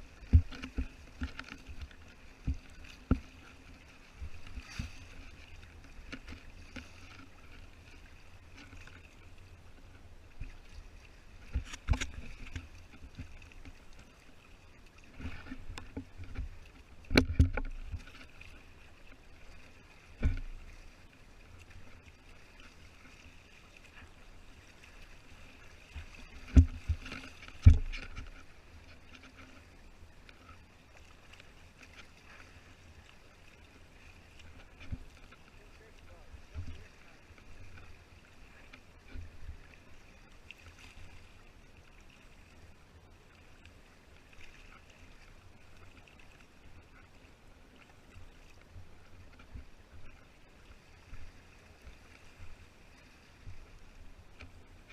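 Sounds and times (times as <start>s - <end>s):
water splashing against hull: 0.0s - 54.9s.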